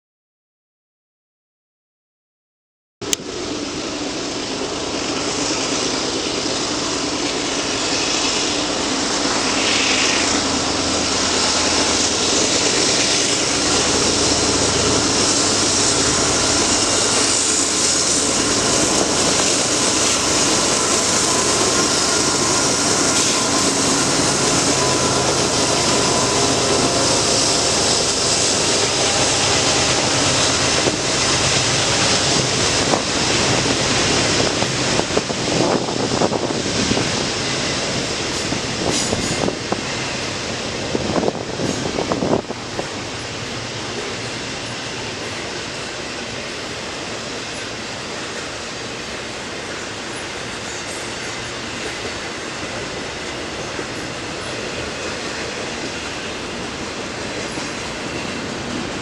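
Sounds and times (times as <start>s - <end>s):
train rumbling past: 3.0s - 59.0s.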